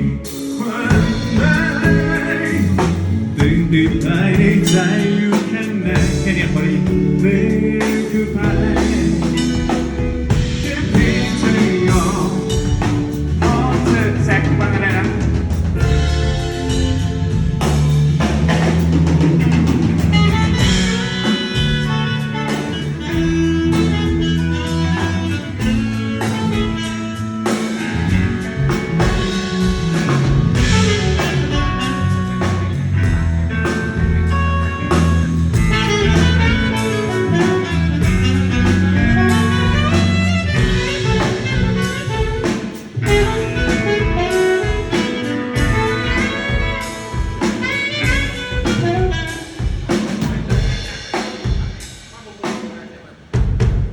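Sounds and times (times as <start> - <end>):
saxophone: 0.0 - 52.2
live jazz band playing: 0.0 - 53.9.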